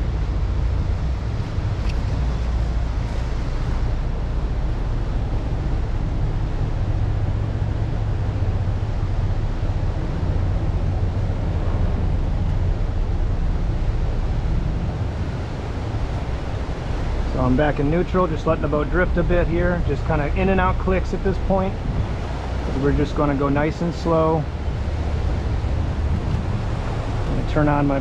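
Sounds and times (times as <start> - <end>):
boat diesel engines droning: 0.0 - 28.0
wind noise on microphone: 0.0 - 28.0.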